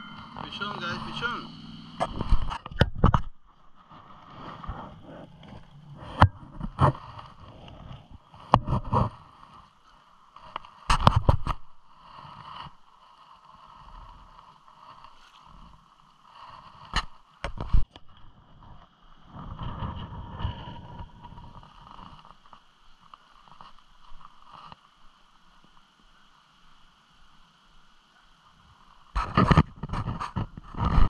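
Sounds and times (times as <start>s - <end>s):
churning river water: 0.0s - 31.0s.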